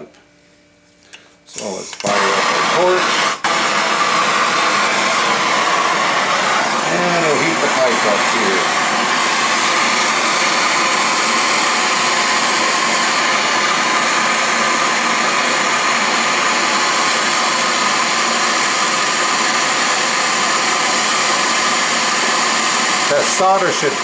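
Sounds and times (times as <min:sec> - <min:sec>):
gas torch hissing: 0:01.5 - 0:24.0.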